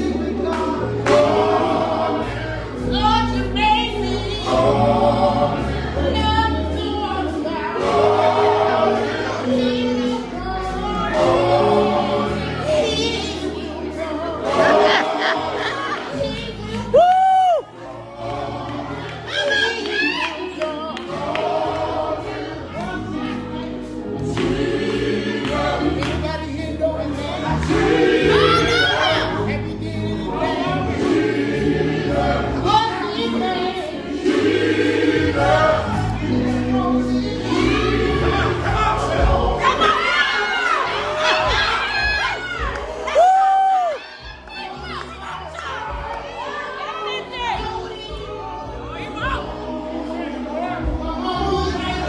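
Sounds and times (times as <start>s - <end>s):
gospel group singing in harmony: 0.0s - 52.0s
musical accompaniment: 0.0s - 52.0s.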